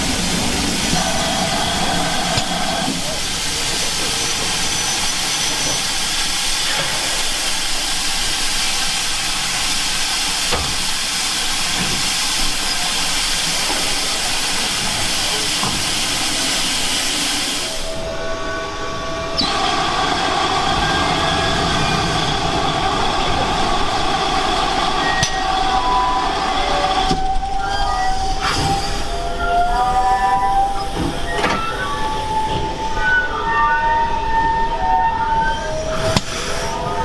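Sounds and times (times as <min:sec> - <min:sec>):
steam locomotive hissing steam: 0:00.0 - 0:37.0.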